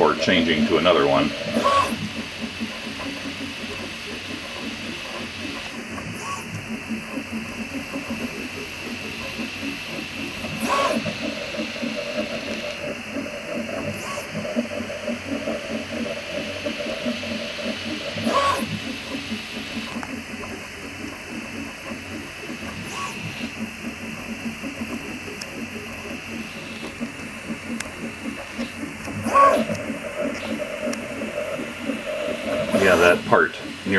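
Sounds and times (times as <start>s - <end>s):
print head whirring: 0.0s - 33.9s
stepper motors buzzing and chattering: 0.0s - 33.9s.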